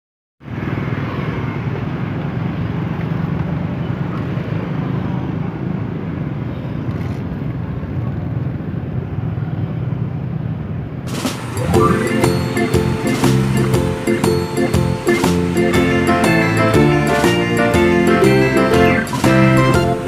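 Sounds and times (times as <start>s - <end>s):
motorcycle and car engines: 0.4s - 19.7s.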